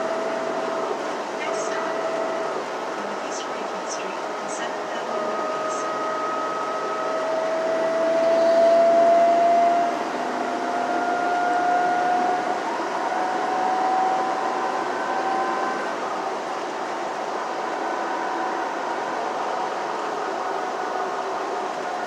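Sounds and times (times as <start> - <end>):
bus drivetrain whine: 0.0 - 22.0
road and engine noise: 0.0 - 22.0.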